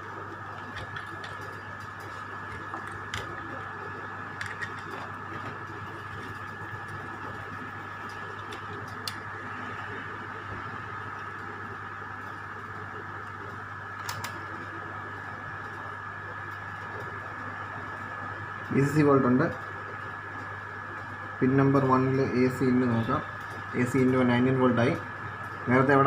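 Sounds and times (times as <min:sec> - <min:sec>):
electrical hum: 0:00.0 - 0:26.0
high constant whine: 0:00.0 - 0:26.0.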